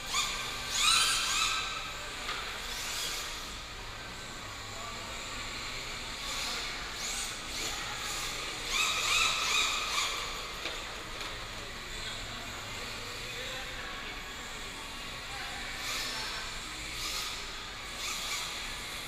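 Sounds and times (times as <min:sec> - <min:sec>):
remote-control car motors whining: 0:00.0 - 0:19.0.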